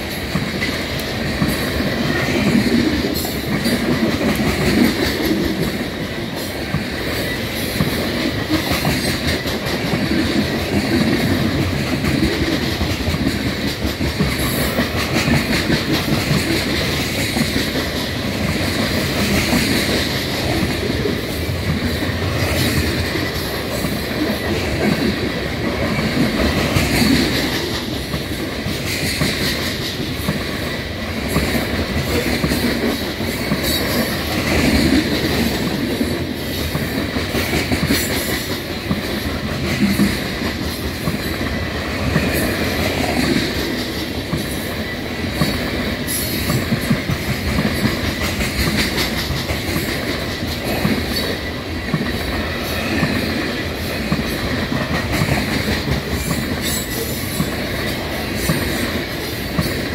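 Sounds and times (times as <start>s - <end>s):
rhythmic clickety-clack of wheels: 0.0s - 59.9s
steel wheels rumbling on rail: 0.0s - 59.9s.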